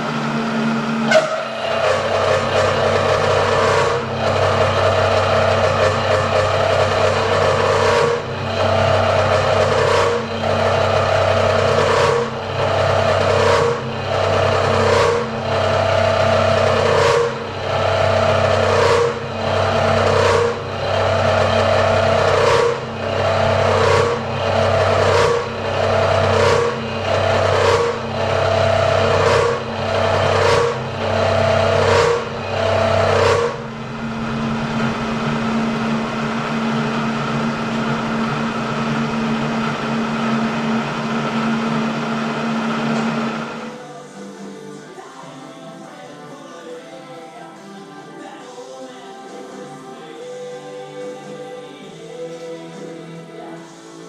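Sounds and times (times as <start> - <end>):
milling cutter chattering whine: 0.0 - 43.8
motor and spindle humming: 0.0 - 43.8.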